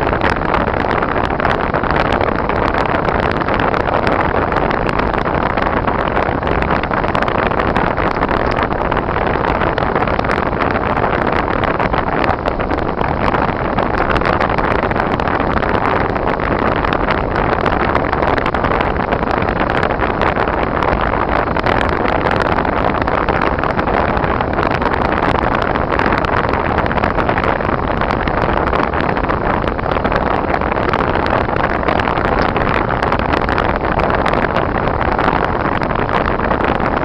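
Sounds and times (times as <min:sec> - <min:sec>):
car driving on snowy road: 0:00.0 - 0:37.0.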